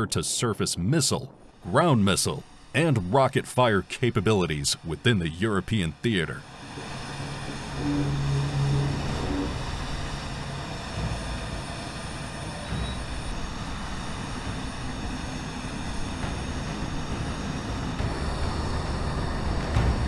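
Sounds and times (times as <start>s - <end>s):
faint high whine: 0.0s - 17.1s
steady engine noise: 1.2s - 20.0s
diesel engine droning: 1.6s - 20.0s.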